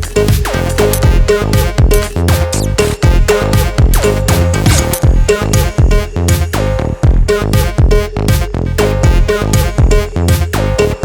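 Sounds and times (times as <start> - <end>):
kick drum: 0.0 - 10.7
electronic dance music: 0.0 - 11.0.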